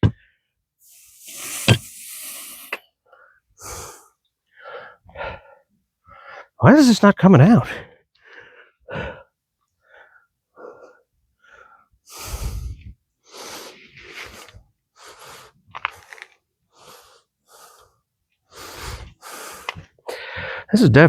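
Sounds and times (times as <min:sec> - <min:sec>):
person breathing hard in puffs: 0:00.8 - 0:06.6, 0:08.2 - 0:20.7.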